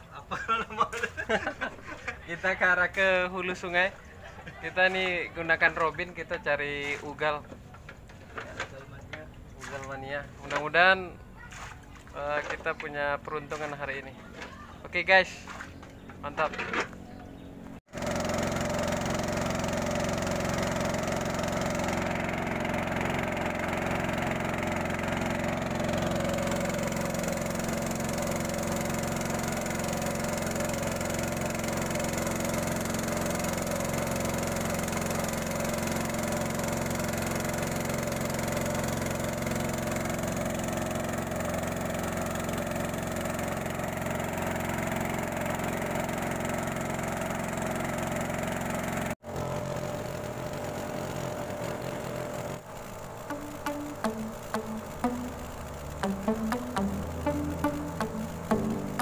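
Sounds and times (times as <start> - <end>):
small boat engine running: 1.1 - 59.0.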